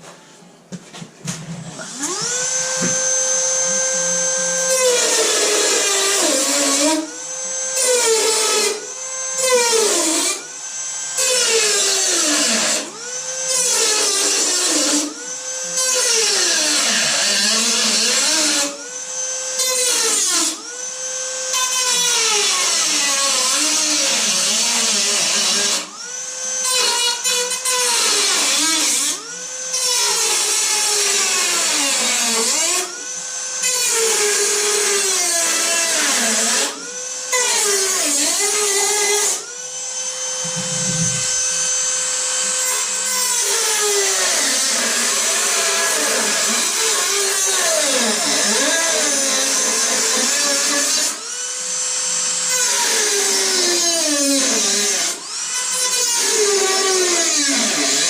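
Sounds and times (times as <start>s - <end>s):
rotary tool cutting metal: 1.7s - 20.6s, 21.4s - 58.0s.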